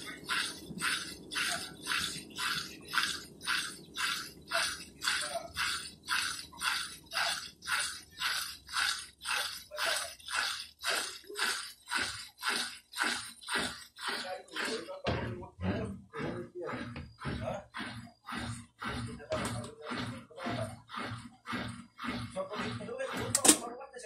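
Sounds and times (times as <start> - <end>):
low motor hum: 0.0 - 23.4
washing machine drum swishing: 0.0 - 23.8.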